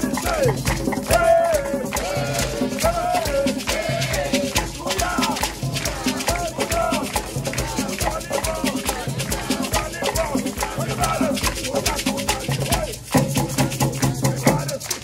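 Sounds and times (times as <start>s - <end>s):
hand drums playing: 0.0s - 15.0s
shaker rattling: 0.0s - 15.0s
voices singing: 0.0s - 15.0s.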